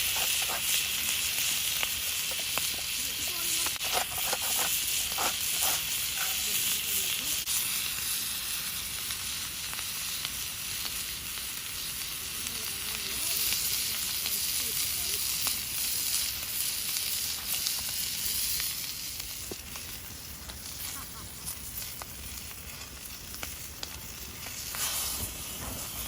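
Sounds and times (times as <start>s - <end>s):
faint fire crackles: 0.0s - 26.0s
steak sizzling in a skillet: 0.0s - 26.0s.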